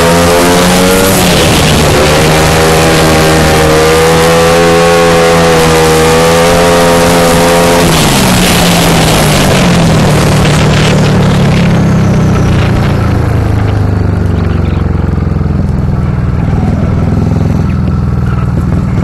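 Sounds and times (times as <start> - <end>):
motorcycle engine running hard: 0.0 - 19.0
wind noise: 0.0 - 19.0.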